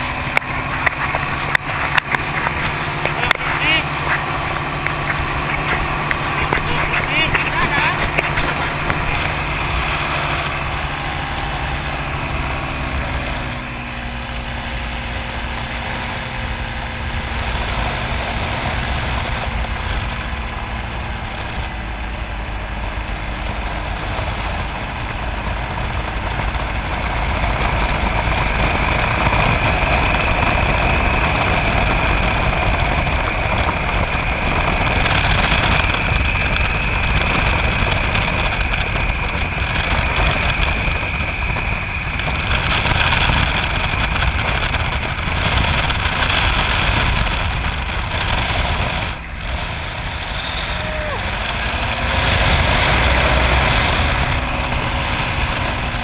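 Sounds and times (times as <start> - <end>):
aircraft engine running: 0.0 - 56.0
wind on microphone: 0.0 - 56.0.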